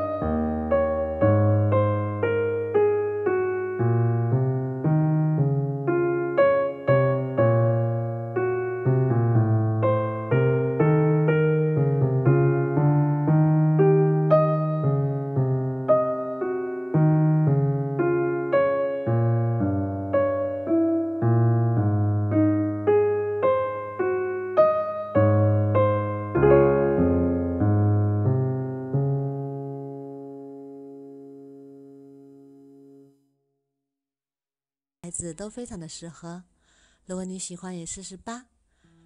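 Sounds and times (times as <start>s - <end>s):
gentle piano music: 0.0s - 33.2s.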